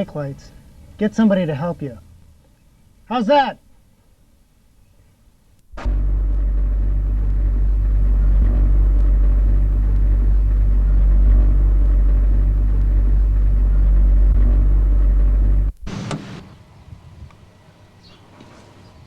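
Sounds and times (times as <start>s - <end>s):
truck engine idling: 0.0s - 3.1s, 5.7s - 18.1s.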